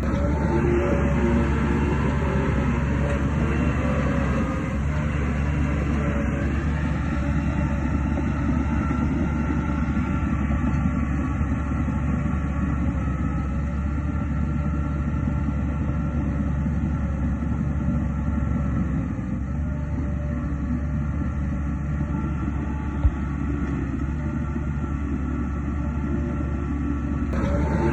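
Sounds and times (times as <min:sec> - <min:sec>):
diesel earthmoving machinery rumbling: 0:00.0 - 0:27.9.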